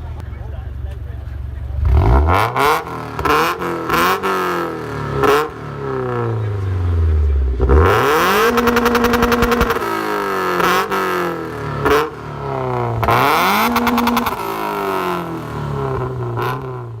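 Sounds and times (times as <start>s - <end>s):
car engine revving: 1.6s - 17.0s.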